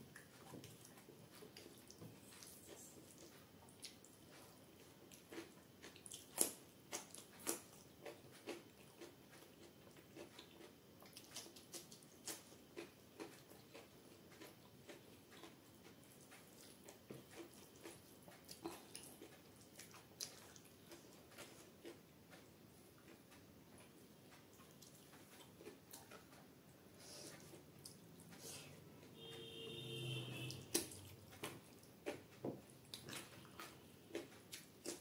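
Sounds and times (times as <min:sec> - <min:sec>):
wet chewing: 0:00.1 - 0:28.4, 0:30.5 - 0:35.0.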